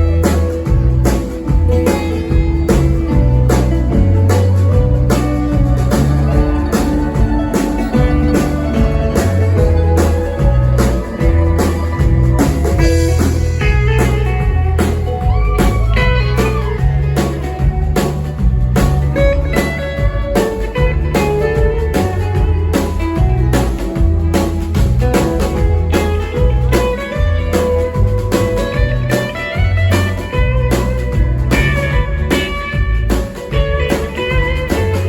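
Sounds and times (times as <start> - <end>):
bass line: 0.0 - 35.0
plucked string instruments: 0.0 - 35.0
steady drum beat: 0.0 - 35.0.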